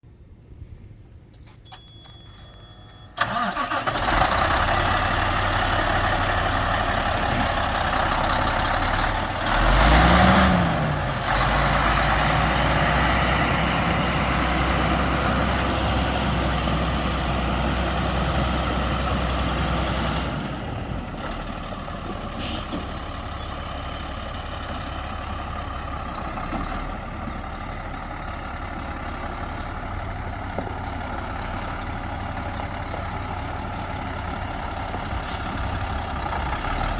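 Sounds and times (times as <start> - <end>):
diesel truck engine revving and idling: 3.2 - 36.9.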